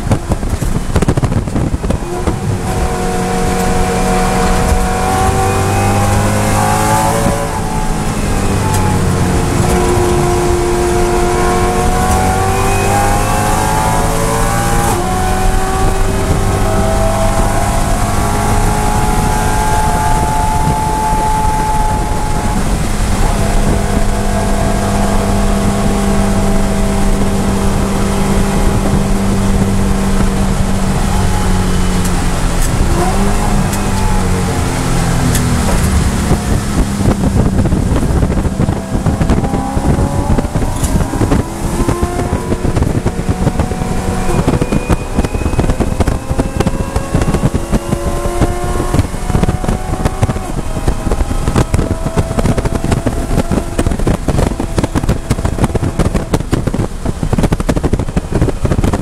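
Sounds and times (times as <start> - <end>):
car engine revving and shifting: 0.0 - 59.0
wind and tyre noise: 0.0 - 59.0.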